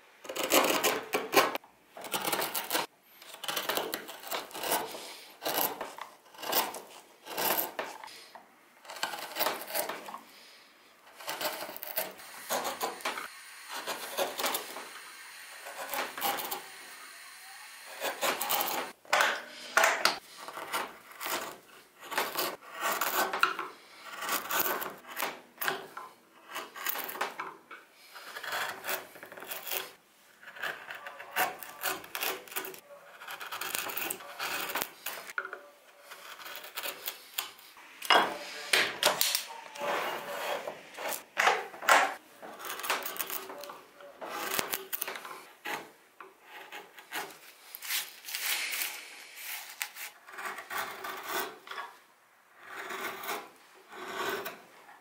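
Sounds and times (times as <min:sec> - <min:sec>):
gouge scraping wood: 0:00.3 - 0:17.1, 0:17.9 - 0:27.4, 0:28.0 - 0:52.0, 0:52.6 - 0:54.6.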